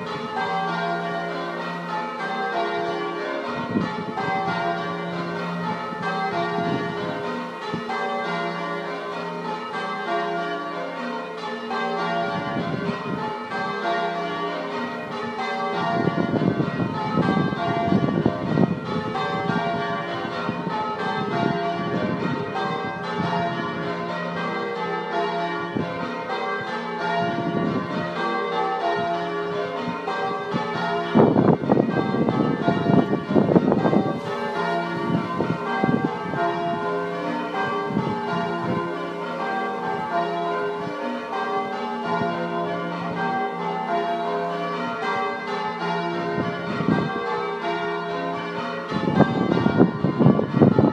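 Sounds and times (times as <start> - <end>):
church bells ringing: 0.0 - 50.9.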